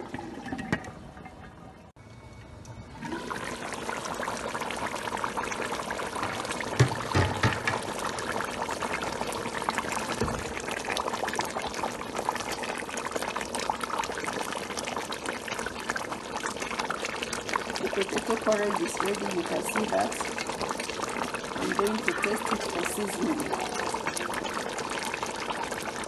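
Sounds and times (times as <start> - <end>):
pot bubbling: 0.0 - 2.0, 2.8 - 26.0.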